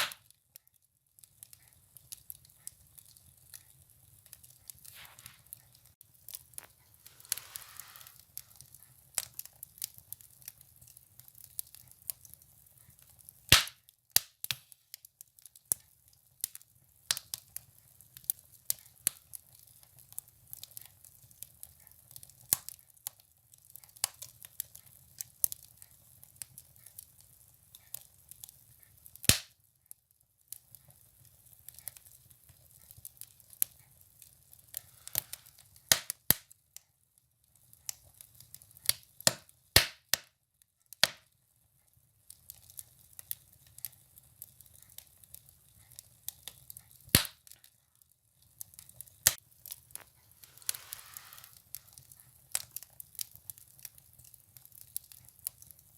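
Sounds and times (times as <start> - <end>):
sharp snaps of burning wood: 0.0 - 0.4, 1.2 - 29.6, 30.5 - 36.6, 37.6 - 40.3, 40.9 - 41.3, 42.3 - 47.8, 48.4 - 55.9
firewood crackling in a stove: 0.0 - 55.9.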